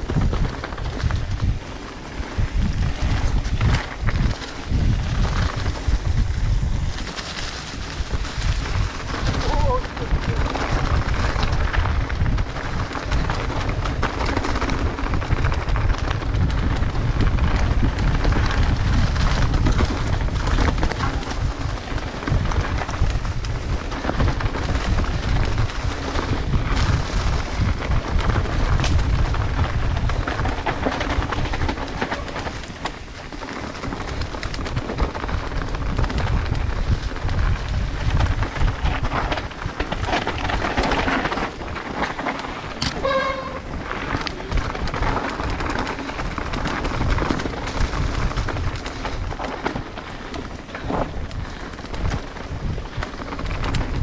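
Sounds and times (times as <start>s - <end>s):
bike rattling over bumps: 0.0s - 54.0s
bike tyres rolling over dirt: 0.0s - 54.0s
wind rumble on microphone: 0.0s - 54.0s.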